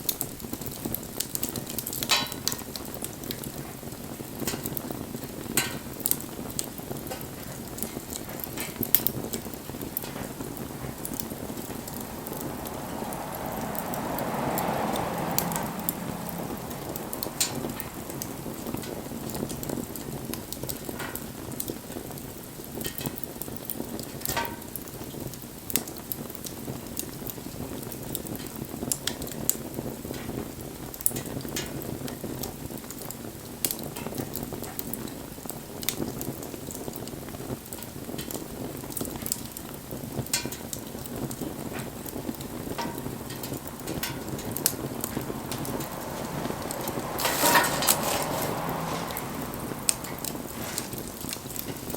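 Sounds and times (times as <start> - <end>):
flames rushing: 0.0 - 51.9
wood fire crackling and popping: 0.0 - 51.9.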